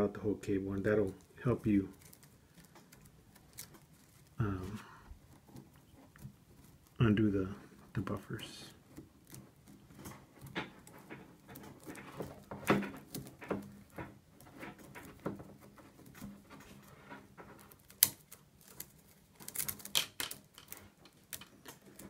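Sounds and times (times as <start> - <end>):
plastic tubes clicking and rustling: 0.0 - 22.0.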